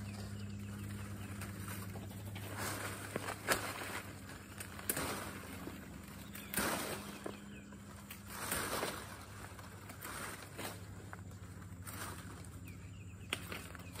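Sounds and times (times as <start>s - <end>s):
leaves and branches rustling: 0.0s - 14.0s
branches snapping: 1.3s - 12.5s, 13.2s - 14.0s.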